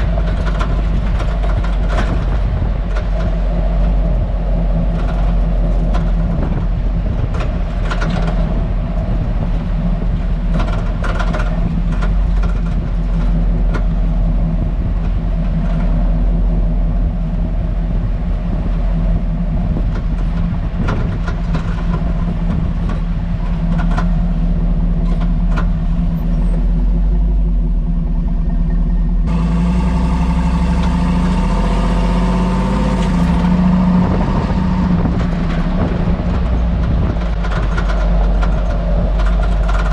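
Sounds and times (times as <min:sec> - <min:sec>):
suspension clicks and knocks: 0:00.0 - 0:26.9, 0:32.4 - 0:39.9
drivetrain and road rumble: 0:00.0 - 0:39.9.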